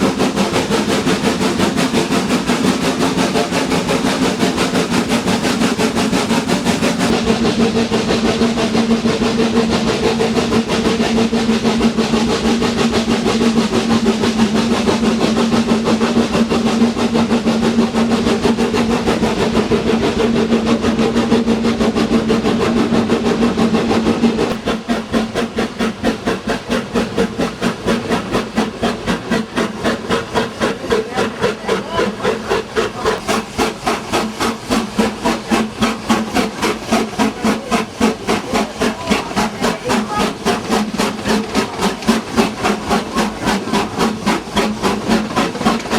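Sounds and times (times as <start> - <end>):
steam locomotive exhaust chuffs: 0.0 - 45.9.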